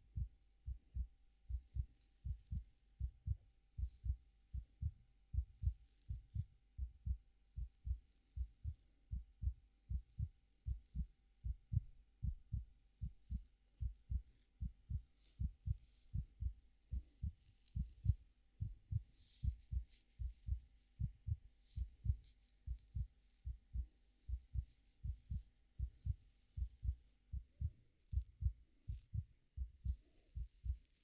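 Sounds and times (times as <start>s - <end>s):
slow heartbeat: 0.0s - 31.0s.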